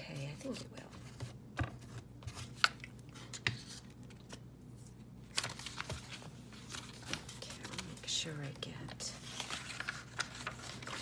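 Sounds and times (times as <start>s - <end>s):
paper rustling: 0.3s - 11.0s.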